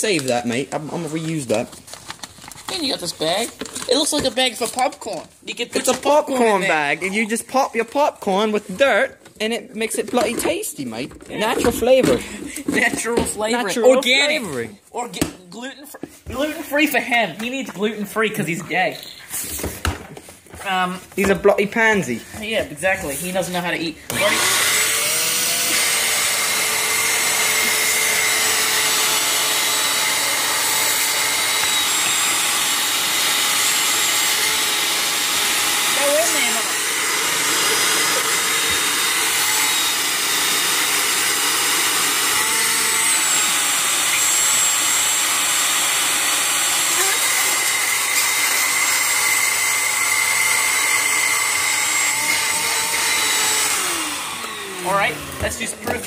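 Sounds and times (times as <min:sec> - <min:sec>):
shop vac whining: 0:00.0 - 0:56.0.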